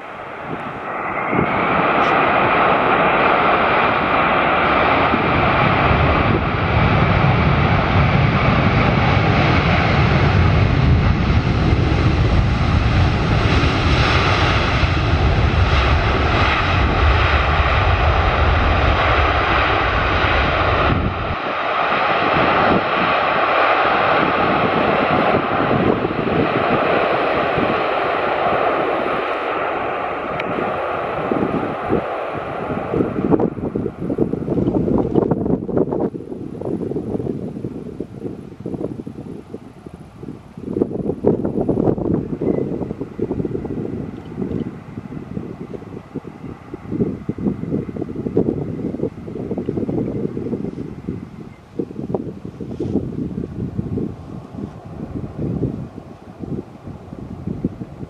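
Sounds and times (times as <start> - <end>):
jet engines reverse thrust rumble: 0.0 - 58.0
lighter jet engine noise: 0.0 - 58.0.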